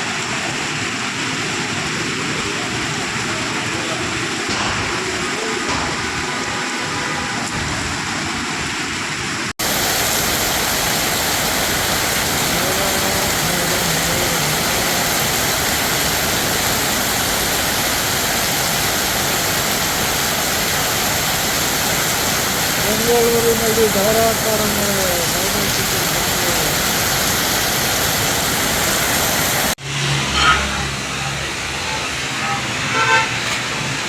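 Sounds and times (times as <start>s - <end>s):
heavy rain downpour: 0.0s - 34.0s
rushing water: 0.0s - 34.0s.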